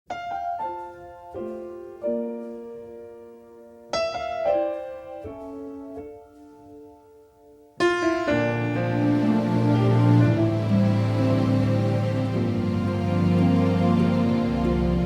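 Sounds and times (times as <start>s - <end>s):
slow solo piano: 0.1s - 15.0s.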